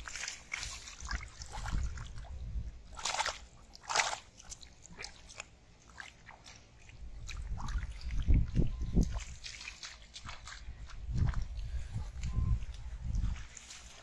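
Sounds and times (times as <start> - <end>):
splashing in shallow water: 0.0 - 14.0.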